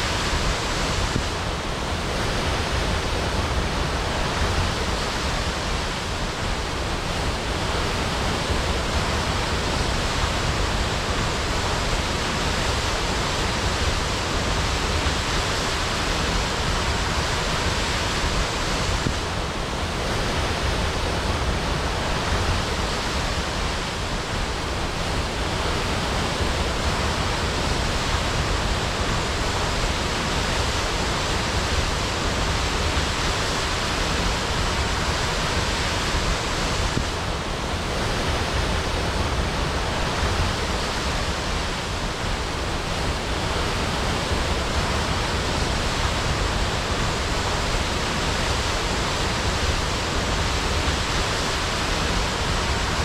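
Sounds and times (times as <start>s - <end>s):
waterfall roaring: 0.0s - 53.0s.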